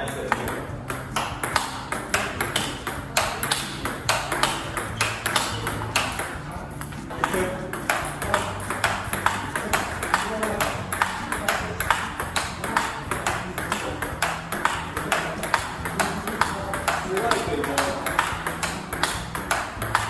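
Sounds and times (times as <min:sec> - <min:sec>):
ping pong ball clicking: 0:00.0 - 0:20.0.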